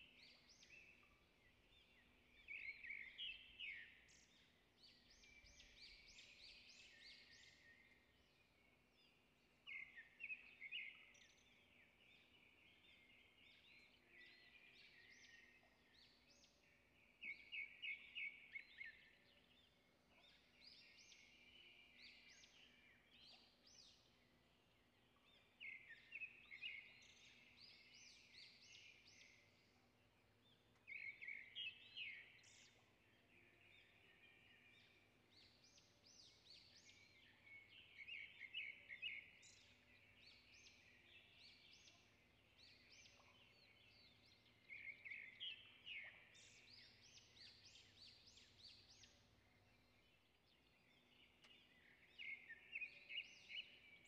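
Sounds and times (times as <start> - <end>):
faint birdsong chirps and trills: 0.0 - 54.0.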